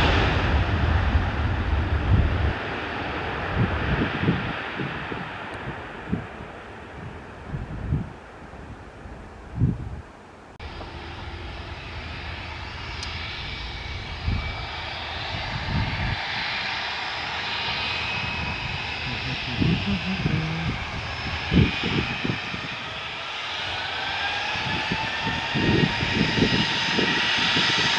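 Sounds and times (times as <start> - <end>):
jet engine roar and whine: 0.0 - 9.7, 10.5 - 27.9.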